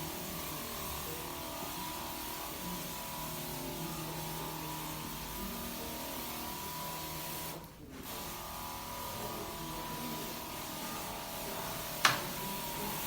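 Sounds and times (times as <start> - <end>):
machine motor humming and hissing: 0.0 - 13.0.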